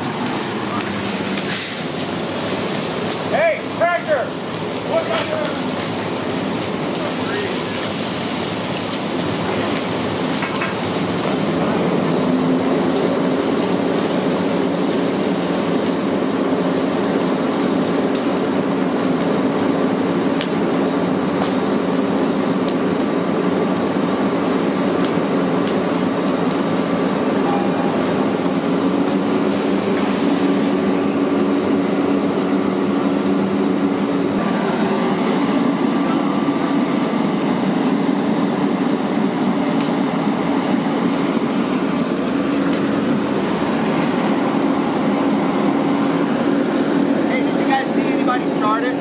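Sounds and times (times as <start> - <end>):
fire engine pump drone: 0.0 - 49.0.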